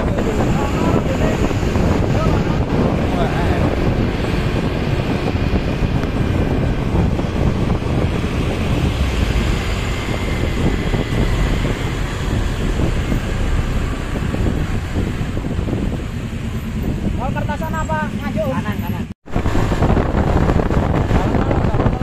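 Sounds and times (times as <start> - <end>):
wind buffeting microphone: 0.0 - 18.4, 19.2 - 22.0.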